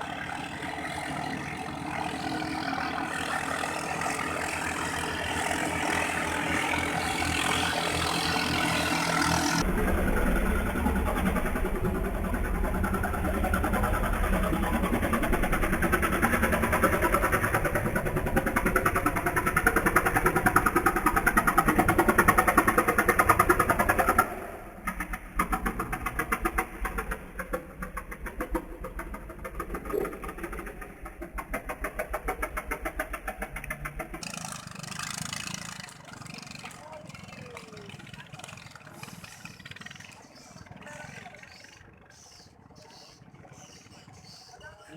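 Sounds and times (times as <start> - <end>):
boat engine running at high revs: 0.0 - 44.9.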